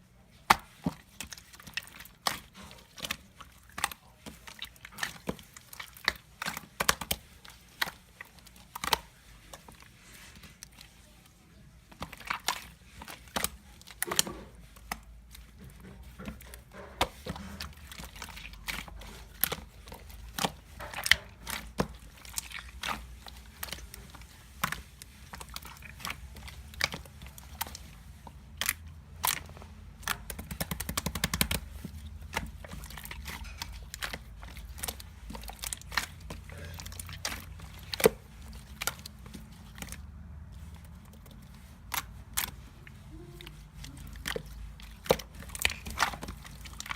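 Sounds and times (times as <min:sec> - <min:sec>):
slime squished by hand: 0:00.3 - 0:46.9.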